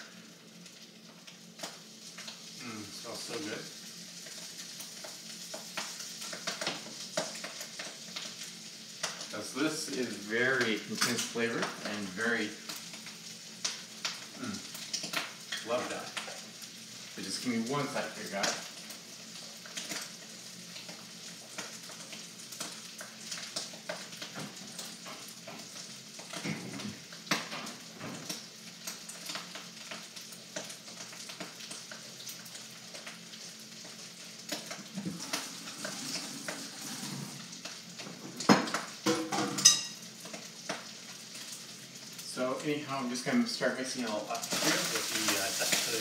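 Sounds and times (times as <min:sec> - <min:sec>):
rice sizzling in a wok: 0:00.0 - 0:46.0.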